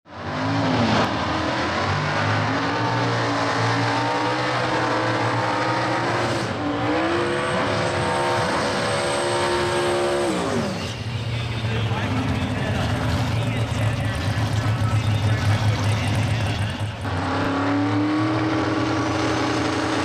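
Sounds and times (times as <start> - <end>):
car engines revving high: 0.1 - 20.0.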